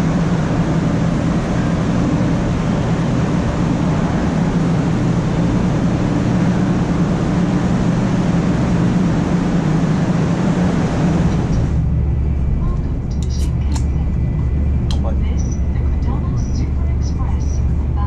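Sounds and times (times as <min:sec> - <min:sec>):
low even hum: 0:00.0 - 0:18.0
train interior running rumble: 0:00.0 - 0:18.0.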